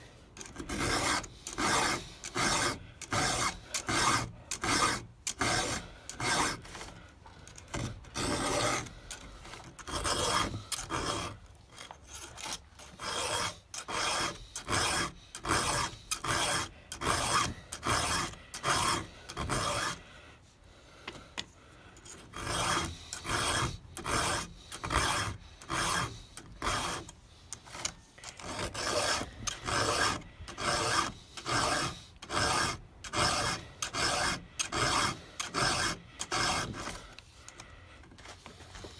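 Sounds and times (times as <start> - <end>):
file rasping on chainsaw chain: 0.4 - 20.2, 22.0 - 38.9.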